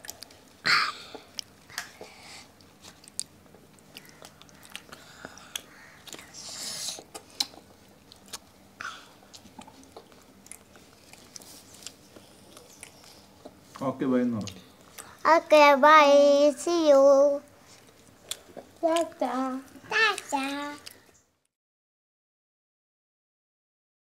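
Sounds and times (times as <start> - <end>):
children chewing: 0.0 - 15.6, 17.4 - 21.2.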